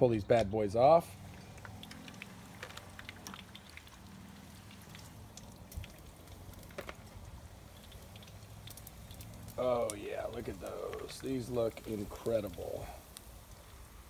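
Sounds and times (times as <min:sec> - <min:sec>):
oil sizzling and popping: 0:00.3 - 0:14.0.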